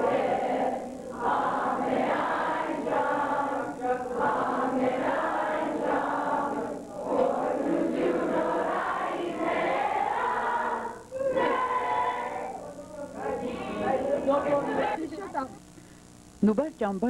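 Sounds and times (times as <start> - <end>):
young people singing in unison: 0.0 - 15.1.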